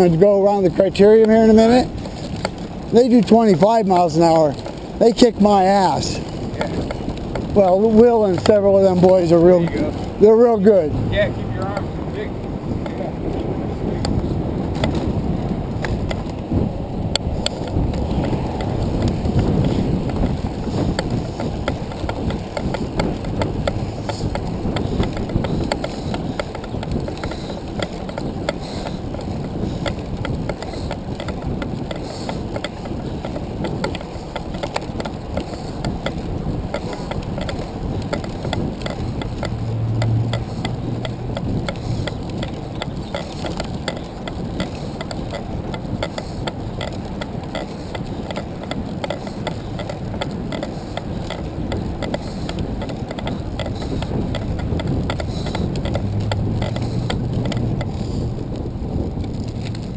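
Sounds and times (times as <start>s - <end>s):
fast chain ticking: 0.0s - 10.9s, 17.2s - 59.9s
wind rushing over microphone: 0.0s - 59.9s.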